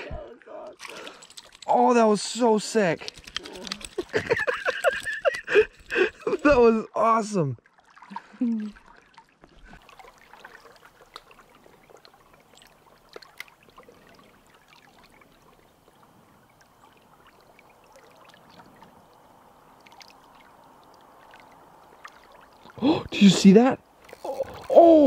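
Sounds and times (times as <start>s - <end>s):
small stream trickling: 0.4s - 25.0s.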